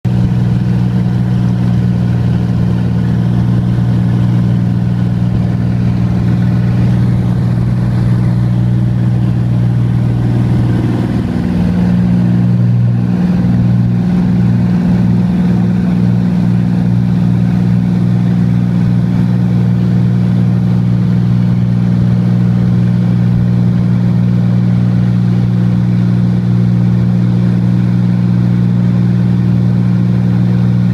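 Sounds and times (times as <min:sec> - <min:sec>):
propeller plane engine drone: 0:00.0 - 0:30.9.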